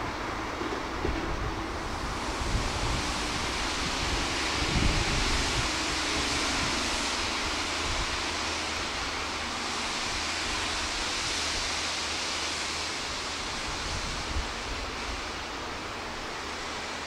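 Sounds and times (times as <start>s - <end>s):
rail vehicle running along track: 0.0s - 17.0s.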